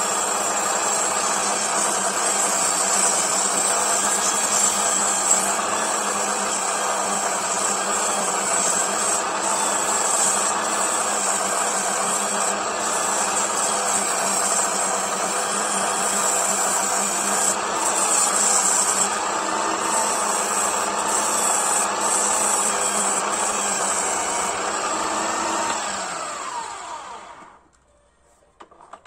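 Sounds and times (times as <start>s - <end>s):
sandpaper on spinning wood: 0.0s - 25.8s
lathe motor running: 0.0s - 27.6s
motor winding down: 0.0s - 27.6s.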